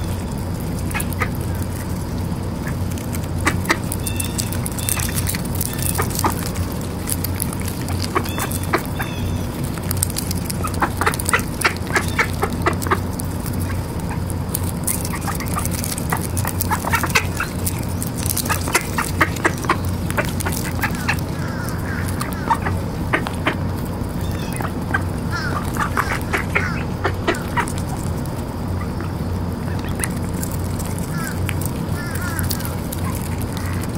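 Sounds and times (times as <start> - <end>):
duck bills clicking and snapping: 0.0 - 33.9
steady low hum: 0.0 - 33.9.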